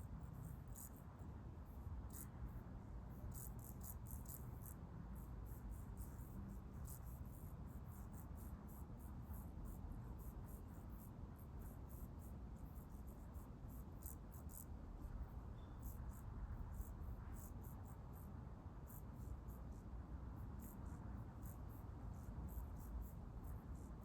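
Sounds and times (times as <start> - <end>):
faint insects chirping: 0.0 - 24.0.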